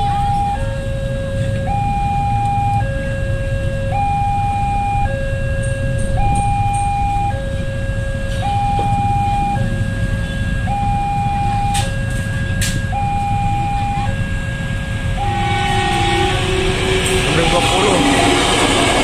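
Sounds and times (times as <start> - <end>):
level crossing two-tone alarm: 0.0 - 19.0
low rumble of traffic: 0.0 - 19.0.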